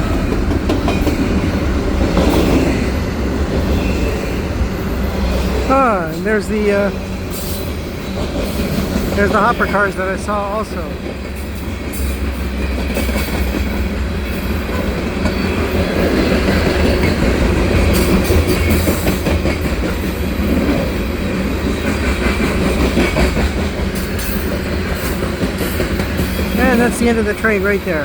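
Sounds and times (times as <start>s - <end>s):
freight train wheels rumbling on rail: 0.0s - 28.0s
wheels clacking over rail joints: 0.0s - 28.0s.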